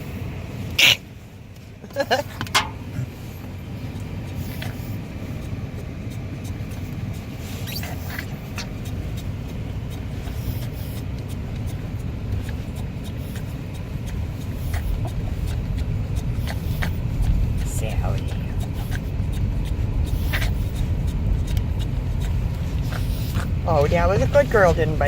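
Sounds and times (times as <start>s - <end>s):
car road and engine rumble: 0.0s - 25.0s
small clicks and ticks: 3.9s - 24.8s.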